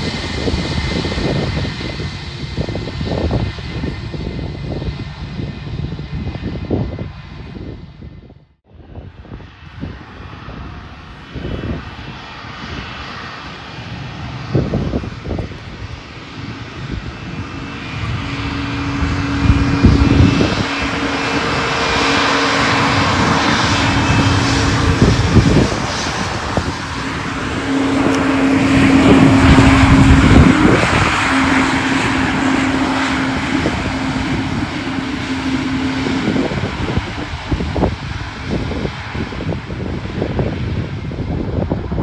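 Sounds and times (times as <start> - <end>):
jet engines at taxi power: 0.0 - 42.0.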